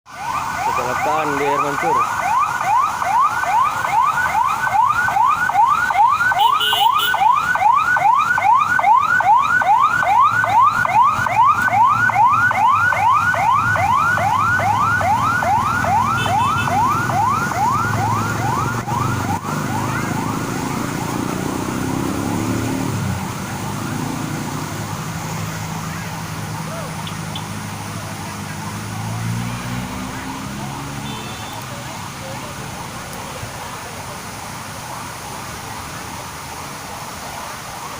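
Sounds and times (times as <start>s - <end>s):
emergency vehicle siren: 0.0s - 37.9s.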